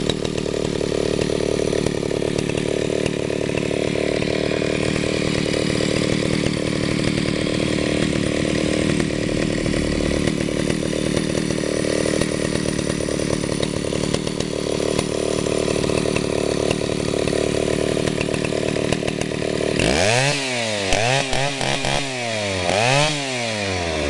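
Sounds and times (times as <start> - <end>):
chainsaw running: 0.0 - 24.0.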